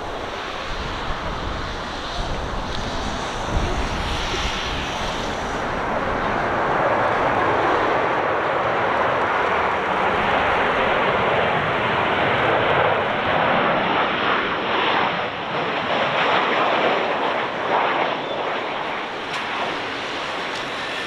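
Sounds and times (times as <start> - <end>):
jet airliner approaching: 0.0 - 21.0.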